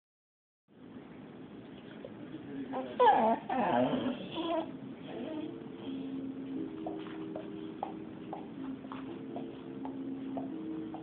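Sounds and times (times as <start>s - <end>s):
faint room hiss: 0.7s - 11.0s.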